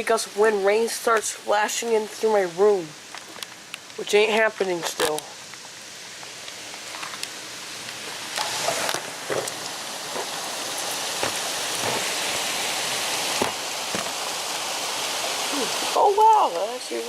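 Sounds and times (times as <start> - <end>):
heavy rain falling: 0.0 - 17.0
raindrops tapping close by: 0.0 - 17.0.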